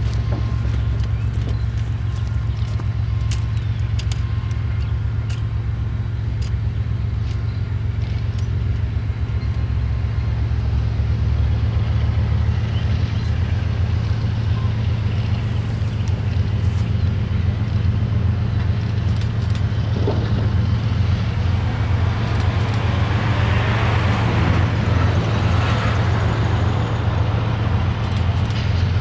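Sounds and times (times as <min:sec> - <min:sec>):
diesel locomotive engine rumbling: 0:00.0 - 0:29.0.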